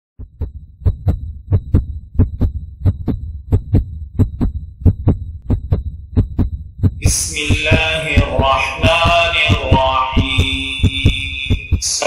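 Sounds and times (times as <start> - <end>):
heartbeat double thump: 0.2 - 12.0
low hum: 0.2 - 12.0.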